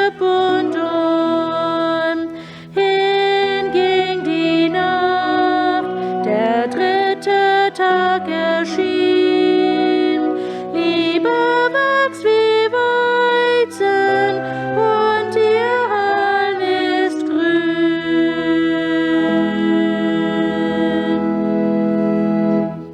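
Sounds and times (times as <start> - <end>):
slow church organ music: 0.0 - 22.9.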